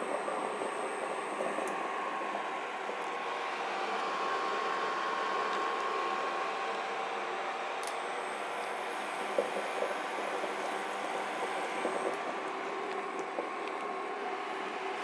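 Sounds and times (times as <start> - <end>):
cooling fan whirring: 0.0 - 15.0
faint high whine: 0.0 - 15.0.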